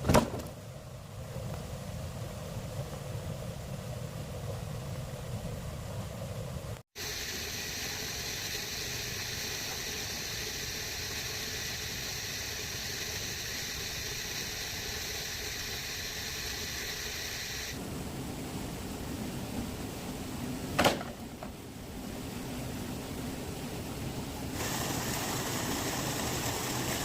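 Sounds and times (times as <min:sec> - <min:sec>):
steady high hiss: 0:00.5 - 0:27.0.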